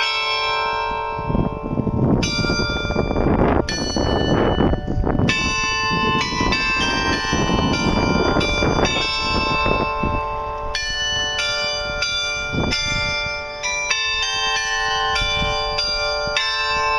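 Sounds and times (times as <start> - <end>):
carillon bells playing a tune: 0.0 - 16.9.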